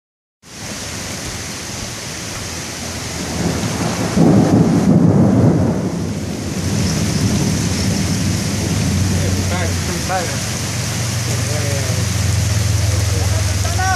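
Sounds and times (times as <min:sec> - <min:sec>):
rain hissing: 0:00.4 - 0:13.9
thunder rumble: 0:02.4 - 0:13.9.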